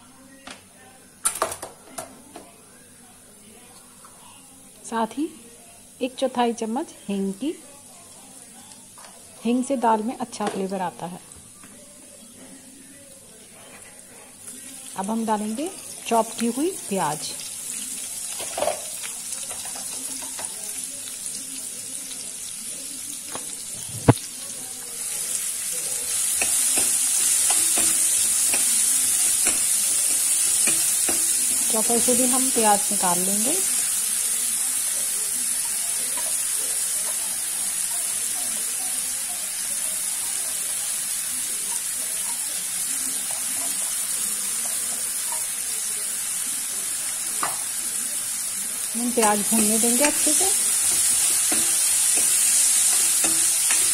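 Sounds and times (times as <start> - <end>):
spices sizzling in hot oil: 3.8 - 53.9.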